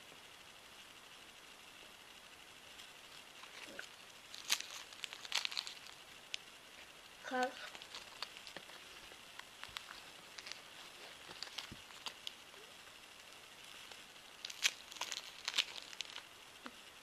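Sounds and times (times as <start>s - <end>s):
crackling of eating sweets: 1.6s - 17.0s.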